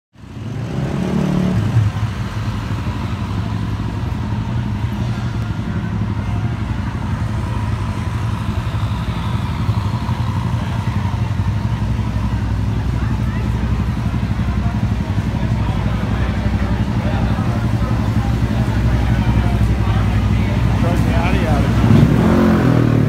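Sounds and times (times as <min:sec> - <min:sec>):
street noise: 0:00.1 - 0:23.0
engine droning: 0:00.2 - 0:23.0.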